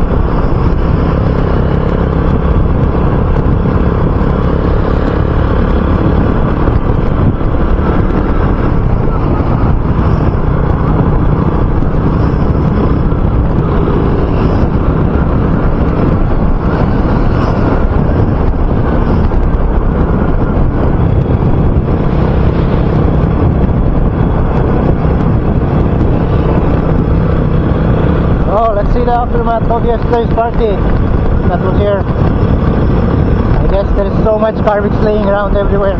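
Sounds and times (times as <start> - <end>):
motorcycle engine cruising: 0.0 - 35.9
wind on microphone: 0.0 - 35.9.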